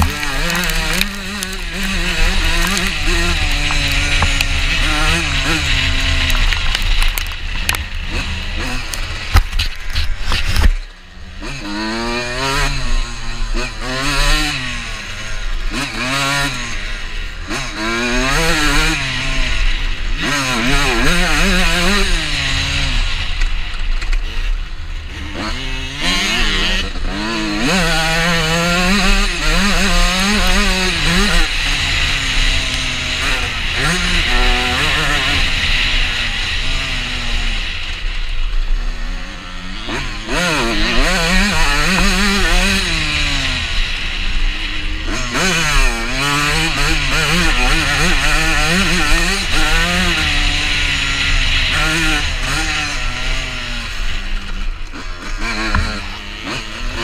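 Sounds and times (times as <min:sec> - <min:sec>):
motocross engine revving: 0:00.0 - 0:57.0.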